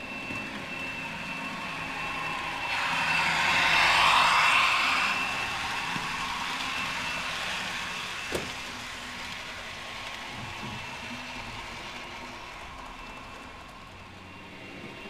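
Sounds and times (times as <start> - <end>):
model coaches running on track: 0.0 - 15.0
model train diesel engine sound: 0.0 - 15.0.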